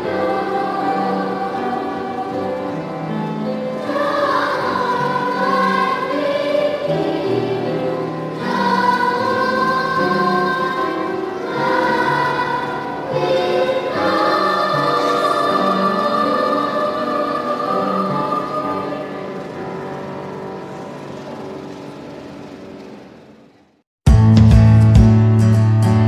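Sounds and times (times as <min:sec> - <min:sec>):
choir singing: 0:00.0 - 0:21.5.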